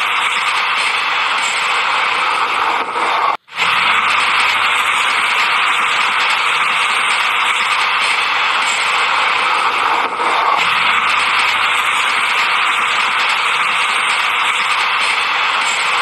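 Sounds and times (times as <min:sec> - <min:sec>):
toy train whirring and rattling: 0:00.0 - 0:16.0.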